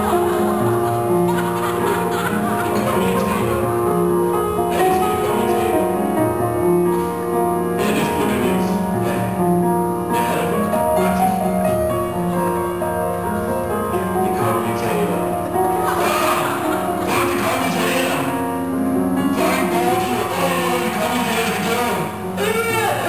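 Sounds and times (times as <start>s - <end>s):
slow keyboard melody: 0.0s - 22.5s.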